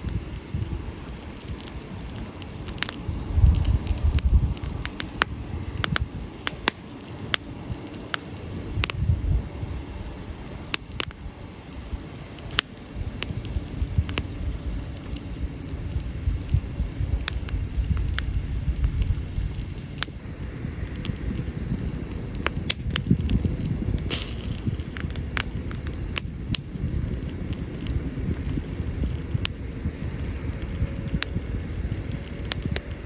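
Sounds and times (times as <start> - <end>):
campfire crackling and popping: 0.0 - 33.0
low fire rumble: 0.0 - 33.0.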